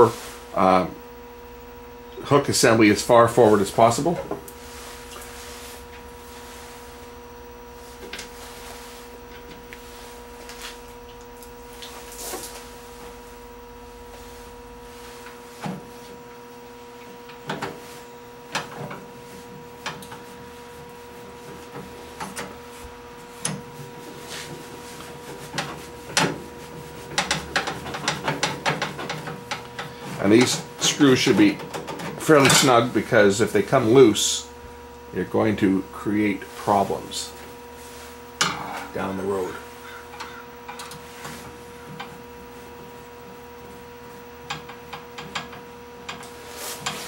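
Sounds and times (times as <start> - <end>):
steady hum: 0.0 - 47.0.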